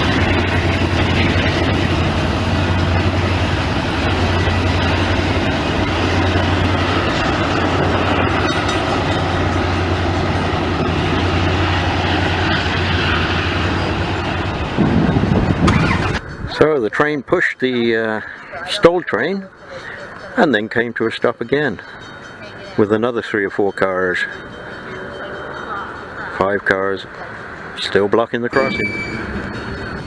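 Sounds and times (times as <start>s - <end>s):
diesel locomotive drone: 0.0s - 30.0s
railcars clattering on rails: 0.0s - 30.0s.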